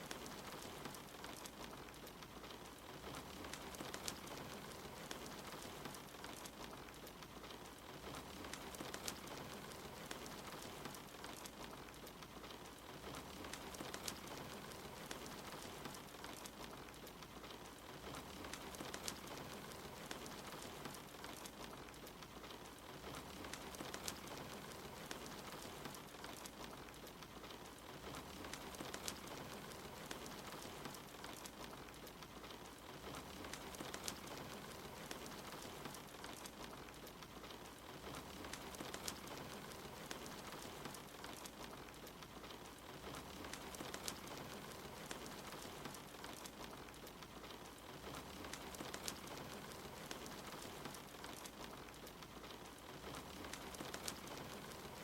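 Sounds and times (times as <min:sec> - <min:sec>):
soft steady rain: 0:00.0 - 0:55.0
wood fire crackling: 0:00.0 - 0:55.0.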